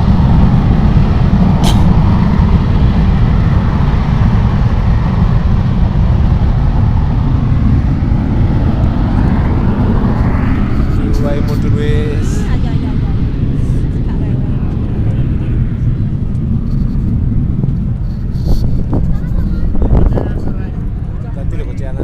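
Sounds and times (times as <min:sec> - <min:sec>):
volcanic crater roaring rumble: 0:00.0 - 0:22.0.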